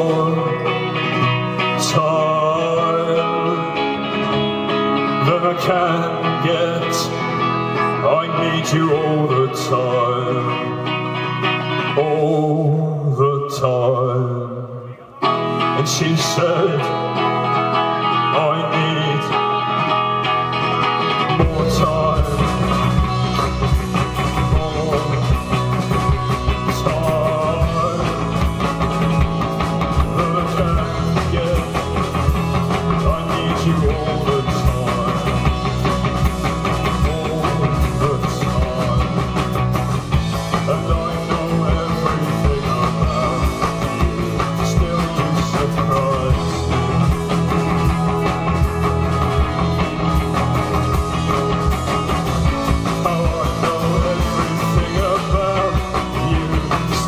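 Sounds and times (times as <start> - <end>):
guitar passage: 0.0 - 13.1, 14.6 - 57.0
rock band playing: 0.0 - 57.0.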